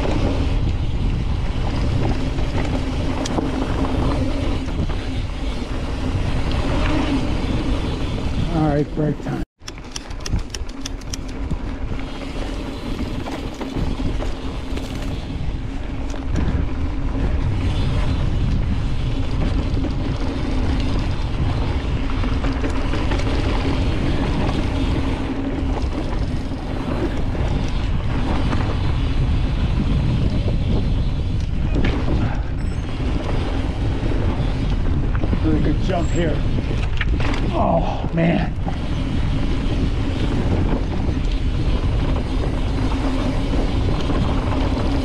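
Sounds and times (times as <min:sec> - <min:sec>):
bike rolling on dirt trail: 0:00.0 - 0:45.0
wind on microphone: 0:00.0 - 0:45.0.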